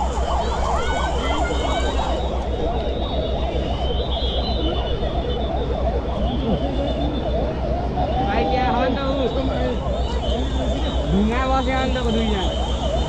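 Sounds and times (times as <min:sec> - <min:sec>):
emergency sirens wailing: 0:00.0 - 0:13.0.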